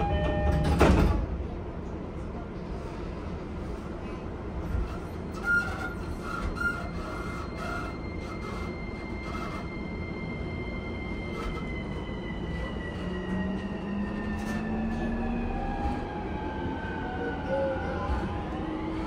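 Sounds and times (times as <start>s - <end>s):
train car rumble: 0.0s - 19.0s.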